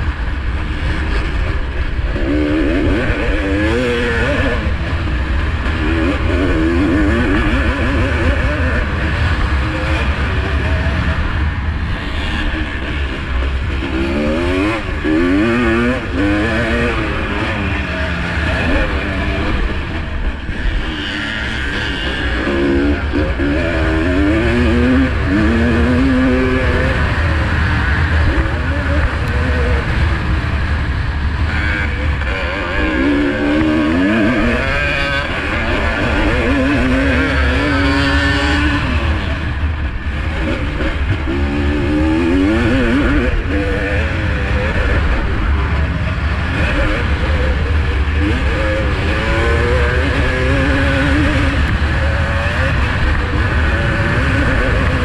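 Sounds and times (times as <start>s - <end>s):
motorcycle engine revving hard: 0.0s - 55.0s.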